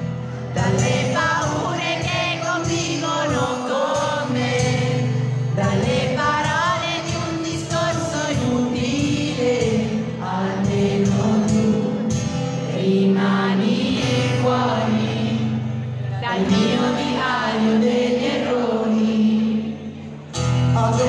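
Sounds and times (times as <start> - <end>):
strummed acoustic guitar: 0.0 - 21.0
man singing into a microphone: 0.3 - 21.0.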